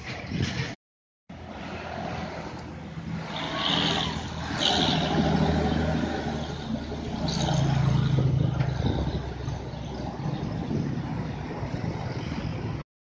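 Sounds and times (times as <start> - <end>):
cars and motorcycles passing: 1.3 - 12.8
diesel truck engine rumble: 1.3 - 12.8.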